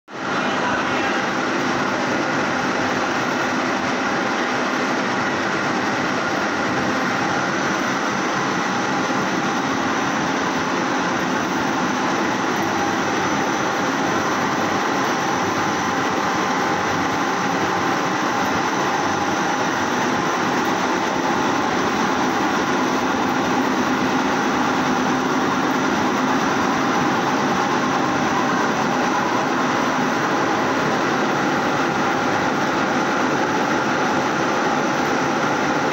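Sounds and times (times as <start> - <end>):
laundry machines whirring: 0.1 - 35.9.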